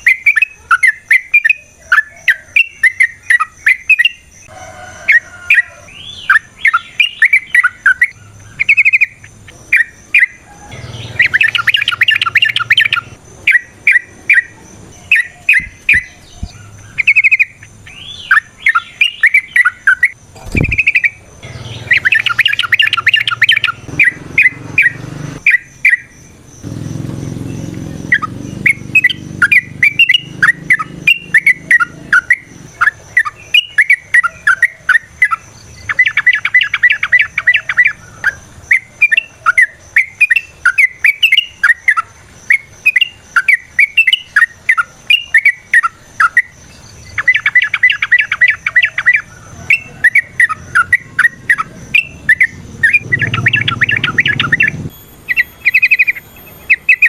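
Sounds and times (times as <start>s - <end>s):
bird chirping song: 0.0s - 57.0s
bird rapid trill: 0.0s - 57.0s.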